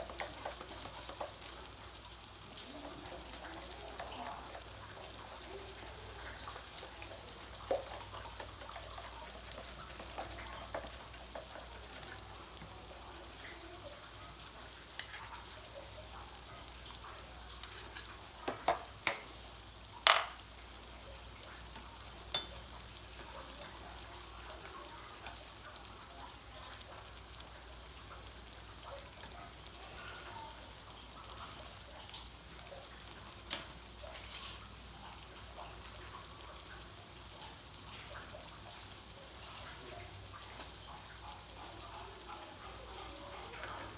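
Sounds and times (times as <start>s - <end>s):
cakes sizzling in a pan: 0.0s - 43.9s.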